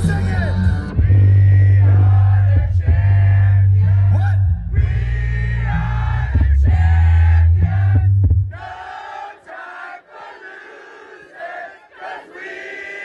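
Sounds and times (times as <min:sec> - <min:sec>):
voices singing and shouting: 0:00.0 - 0:13.0.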